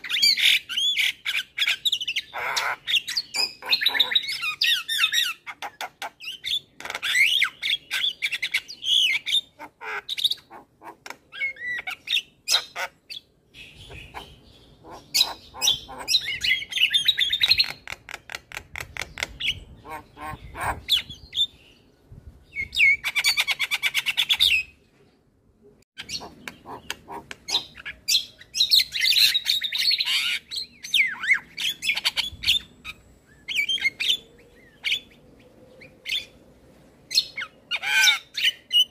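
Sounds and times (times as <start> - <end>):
myna bird singing: 0.0 - 25.2, 25.9 - 36.5, 37.1 - 38.9.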